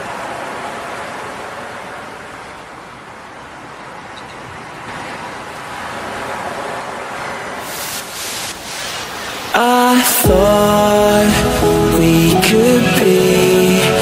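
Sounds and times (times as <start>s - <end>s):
ocean surf washing: 0.0s - 14.0s.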